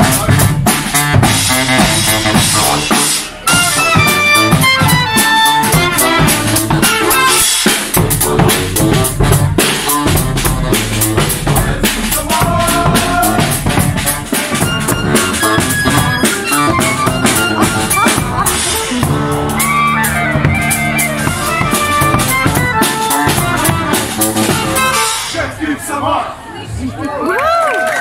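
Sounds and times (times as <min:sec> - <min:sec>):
brass bass horn held notes: 0:00.0 - 0:25.4
drums beating steady rhythm: 0:00.0 - 0:25.6
trumpets: 0:00.0 - 0:25.6.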